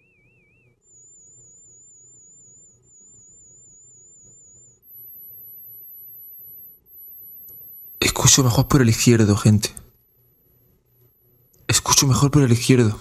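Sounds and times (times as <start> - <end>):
warble test tones: 0.0 - 12.7.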